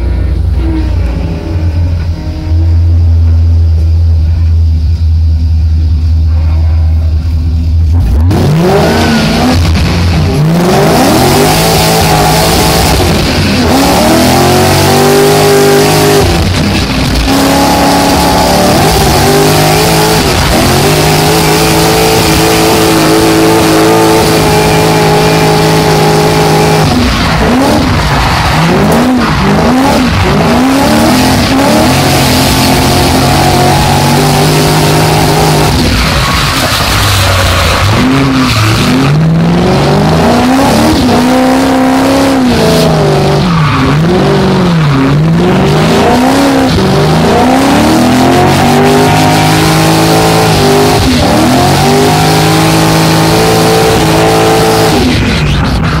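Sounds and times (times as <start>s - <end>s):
car engine revving: 0.0s - 56.0s
tyres squealing and skidding: 8.1s - 56.0s.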